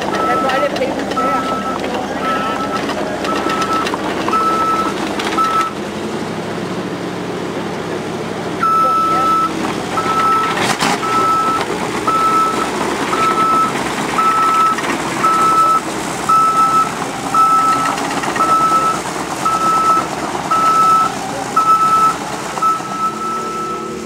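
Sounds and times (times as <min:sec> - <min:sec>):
engines rumbling: 0:00.0 - 0:24.0
back-up alarm beeping: 0:00.1 - 0:05.8, 0:08.6 - 0:24.0.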